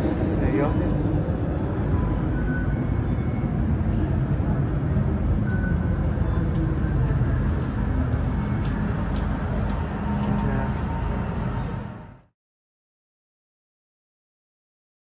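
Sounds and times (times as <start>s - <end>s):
train low rumble: 0.0s - 12.3s.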